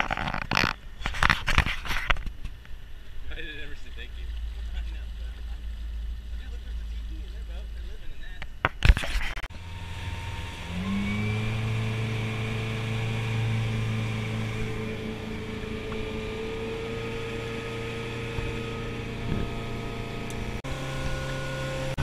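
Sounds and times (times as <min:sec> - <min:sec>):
motorboat engine humming: 0:02.3 - 0:22.0.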